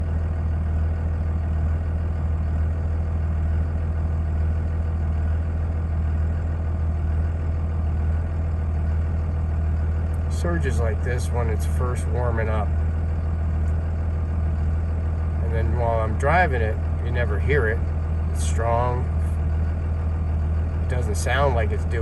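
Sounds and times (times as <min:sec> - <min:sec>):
diesel engine idling with lope: 0:00.0 - 0:22.0.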